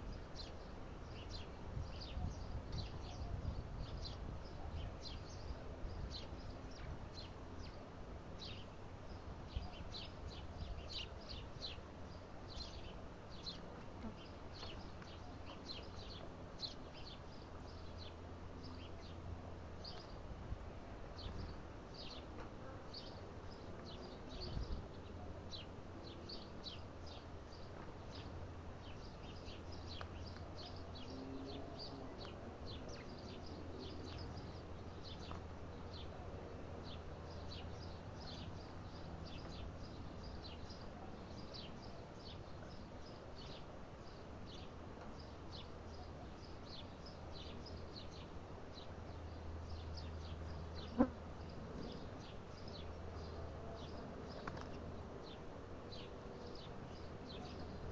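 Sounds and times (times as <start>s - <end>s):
small birds chirping: 0.0s - 20.3s, 21.0s - 57.9s.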